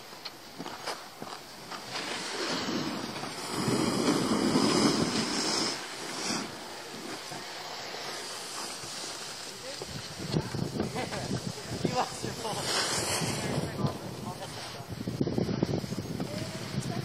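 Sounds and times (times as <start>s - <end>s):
skis scraping over snow: 0.2s - 17.0s.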